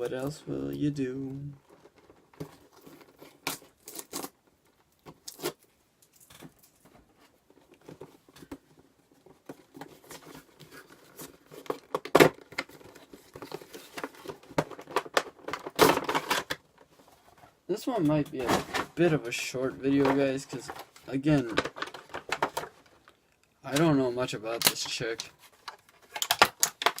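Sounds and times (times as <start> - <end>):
plastic and cardboard crinkling: 0.0 - 27.0.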